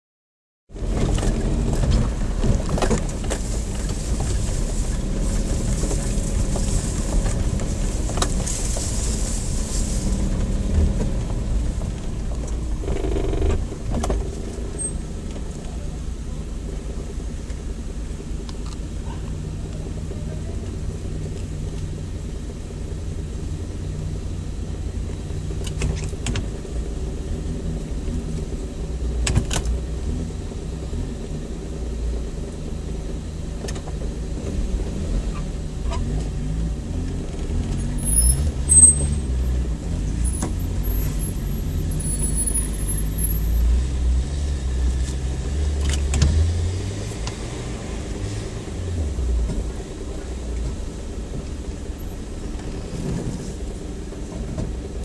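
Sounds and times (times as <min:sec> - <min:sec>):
vehicle engine rumbling: 0:00.7 - 0:55.0.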